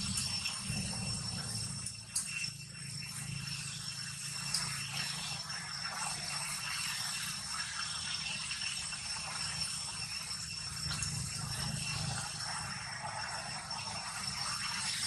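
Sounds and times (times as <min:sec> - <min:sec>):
rattling insect chorus: 0:00.0 - 0:15.0.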